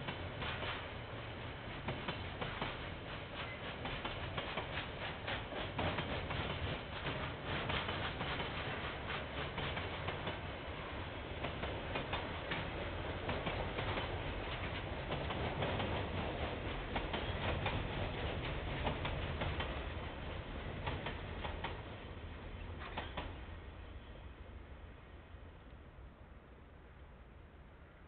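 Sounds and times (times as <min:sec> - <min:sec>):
train wheels clicking over rails: 0:00.0 - 0:23.5
low train rumble: 0:00.0 - 0:28.0.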